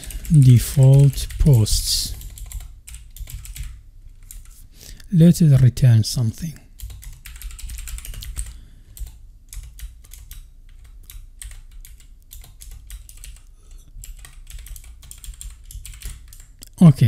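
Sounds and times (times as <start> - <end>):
keyboard typing clicks: 0.0 - 4.5, 6.8 - 16.8
low steady hum: 0.0 - 17.0.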